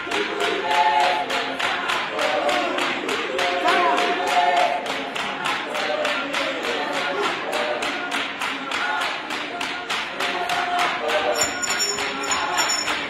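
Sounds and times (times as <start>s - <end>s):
group singing in harmony: 0.0s - 13.0s
rhythmic hand clapping: 0.0s - 13.0s.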